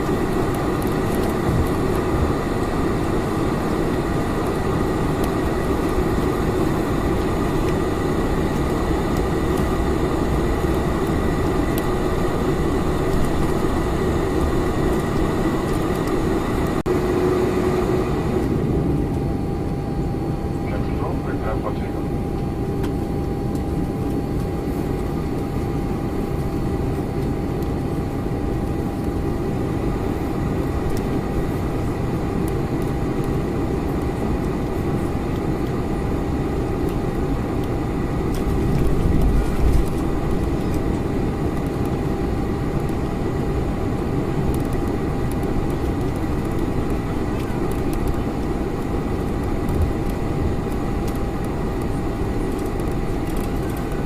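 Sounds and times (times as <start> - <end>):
aircraft cabin roar: 0.0 - 54.0
thin steady whine: 0.0 - 54.0.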